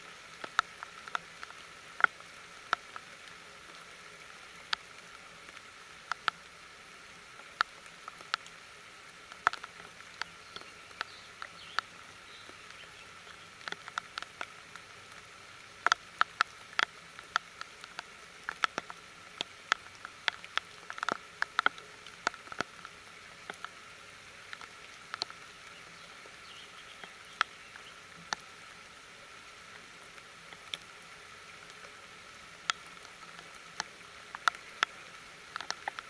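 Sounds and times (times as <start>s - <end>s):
light rain pattering: 0.0s - 36.0s
sharp raindrops landing close: 0.0s - 36.0s.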